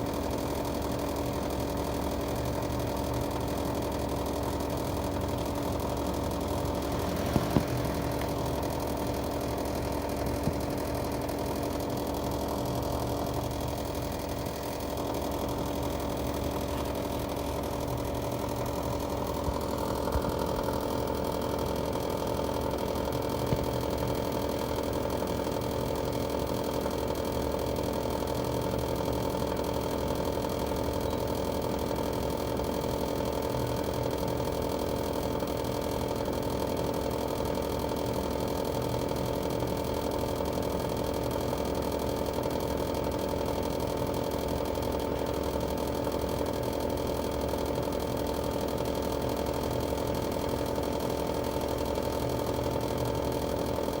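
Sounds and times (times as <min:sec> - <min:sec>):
air conditioner unit humming: 0:00.0 - 0:54.0.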